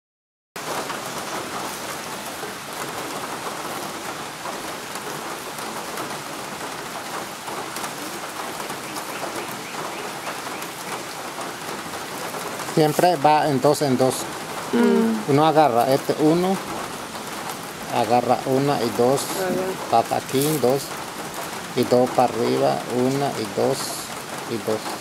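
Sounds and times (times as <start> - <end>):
steady rain hiss: 0.6 - 25.0.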